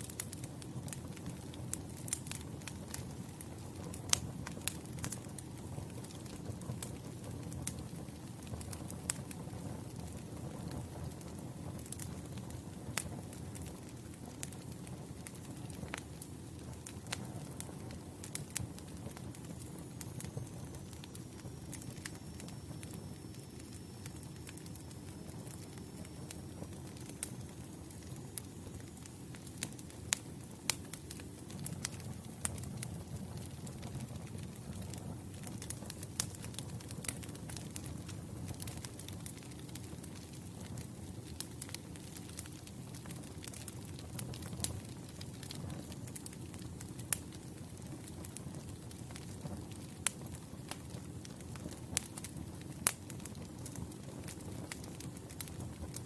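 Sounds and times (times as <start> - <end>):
campfire crackling: 0.0 - 56.0
fire pops and snaps: 0.0 - 56.0.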